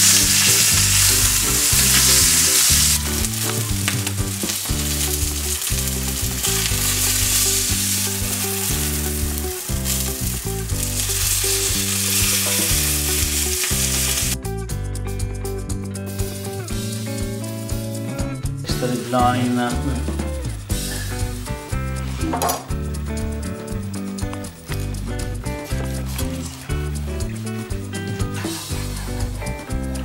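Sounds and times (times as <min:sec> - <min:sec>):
steaks sizzling in frying pan: 0:00.0 - 0:14.4, 0:16.0 - 0:18.2, 0:18.9 - 0:30.0
background music with low bass: 0:00.0 - 0:30.0.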